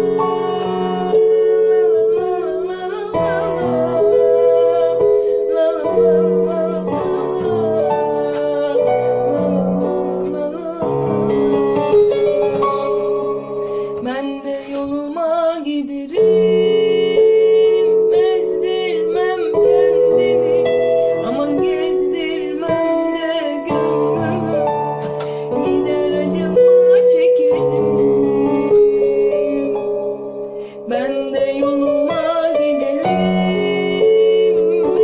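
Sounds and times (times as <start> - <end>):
electronic keyboard melody: 0.0 - 35.0.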